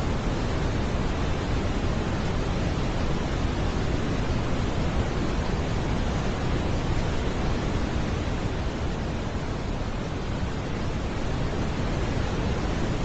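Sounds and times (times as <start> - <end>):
brown noise: 0.0 - 13.0.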